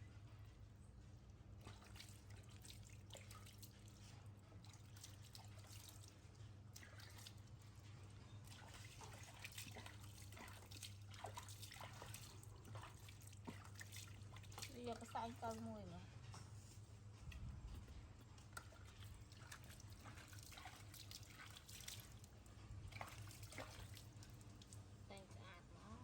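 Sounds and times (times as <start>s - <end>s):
water dripping and trickling: 0.0s - 16.0s, 16.8s - 25.8s
low steady hum: 0.0s - 26.0s
small splashes: 1.6s - 15.7s, 18.4s - 25.4s.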